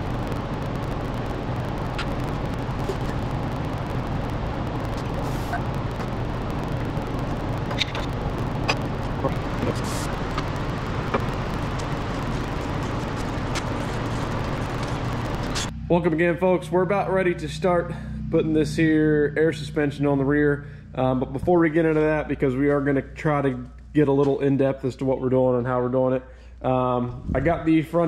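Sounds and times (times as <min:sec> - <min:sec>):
low droning hum: 0:00.0 - 0:28.0.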